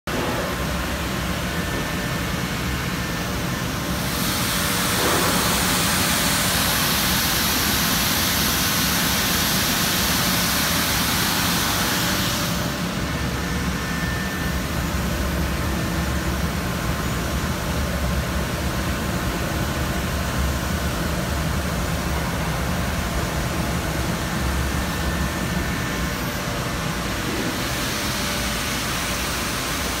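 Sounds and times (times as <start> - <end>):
deburring machine running: 0.1 - 30.0.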